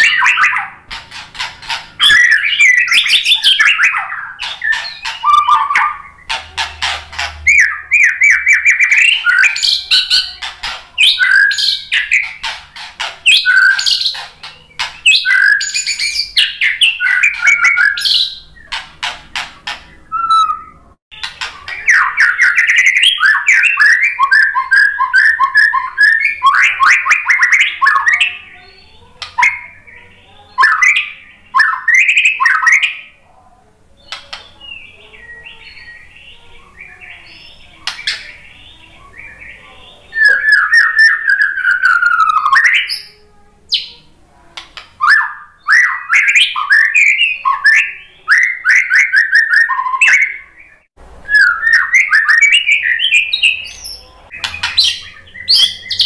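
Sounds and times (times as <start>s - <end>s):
bird singing varied phrases: 0.0s - 44.2s, 44.8s - 56.0s.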